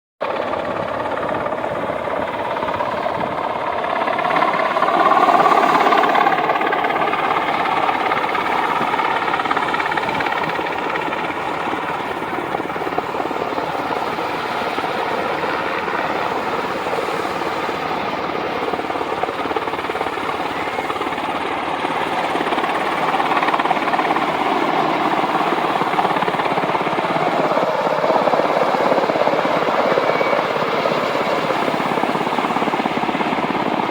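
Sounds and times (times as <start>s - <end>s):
helicopter rotor and turbine: 0.2s - 33.9s.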